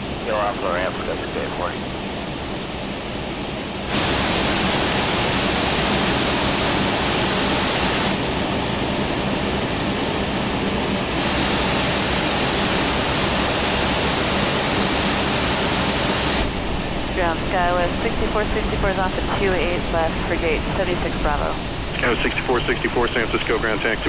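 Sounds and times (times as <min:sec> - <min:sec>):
low hum: 0:00.0 - 0:24.0
aircraft cockpit rushing noise: 0:03.2 - 0:24.0.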